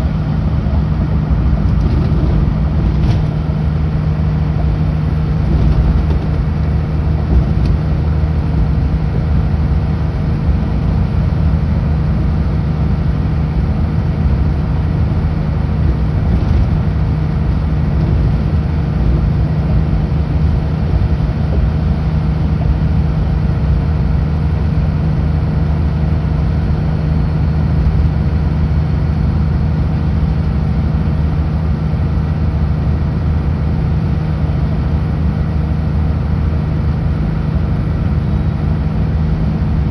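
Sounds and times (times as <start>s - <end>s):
road noise: 0.0s - 39.9s
truck diesel engine droning: 0.0s - 39.9s.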